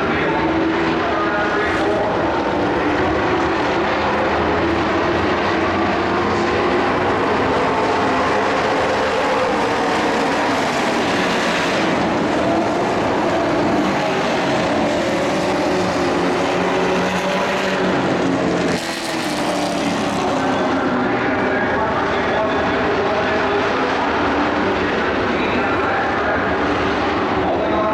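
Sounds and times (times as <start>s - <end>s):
race truck engines passing: 0.0s - 27.9s.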